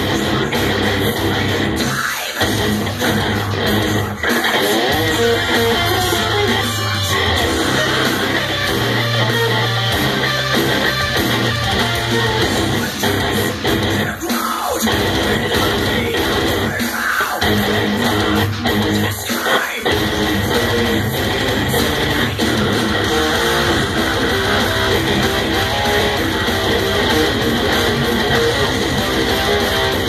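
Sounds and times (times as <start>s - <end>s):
electric guitar rock riff: 0.0s - 30.0s.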